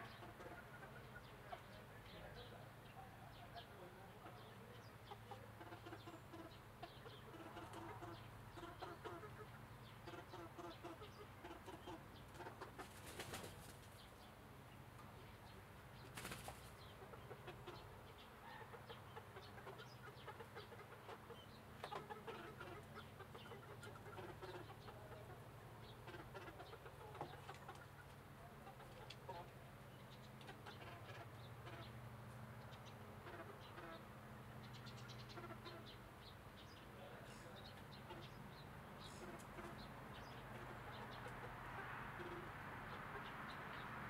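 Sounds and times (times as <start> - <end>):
chicks clucking and chirping: 0.0 - 44.0.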